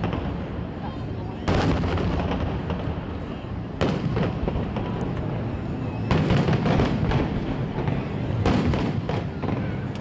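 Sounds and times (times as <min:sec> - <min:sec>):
loud firework booms: 0:00.0 - 0:00.8, 0:01.4 - 0:09.9.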